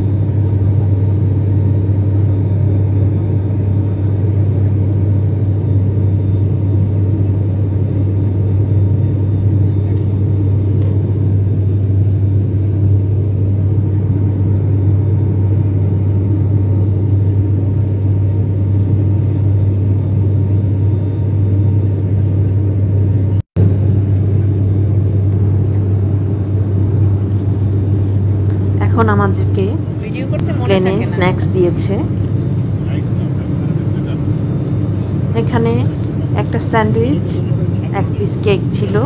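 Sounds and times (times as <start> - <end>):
propeller airliner engines droning: 0.0 - 39.0.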